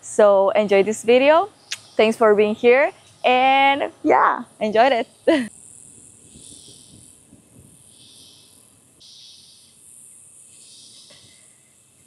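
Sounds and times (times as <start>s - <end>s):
buzzing insect chorus: 0.0s - 12.0s
steady high hiss: 0.0s - 12.0s.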